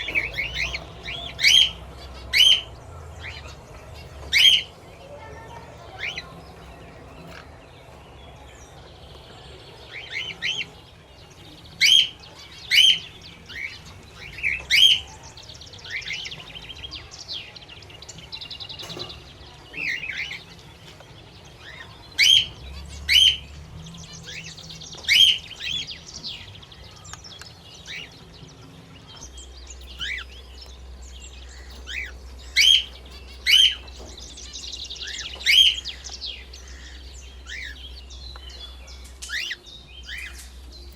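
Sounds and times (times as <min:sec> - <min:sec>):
parrots chirping: 0:00.0 - 0:40.9
soft warbling bird chatter: 0:00.0 - 0:40.9.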